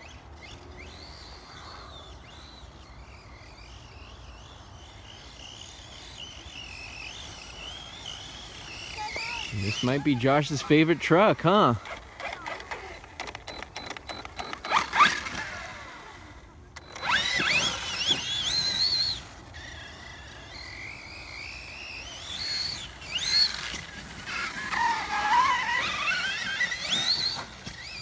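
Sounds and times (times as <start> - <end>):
electric motor whining: 5.2 - 28.0.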